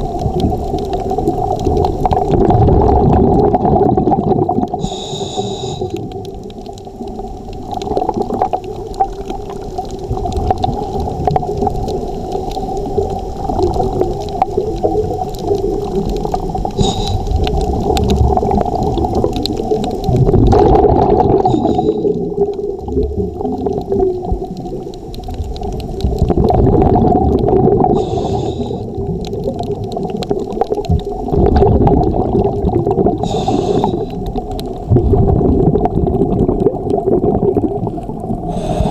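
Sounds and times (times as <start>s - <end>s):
muffled underwater rumble: 0.0s - 38.9s
regulator bubbles gurgling: 0.0s - 38.9s.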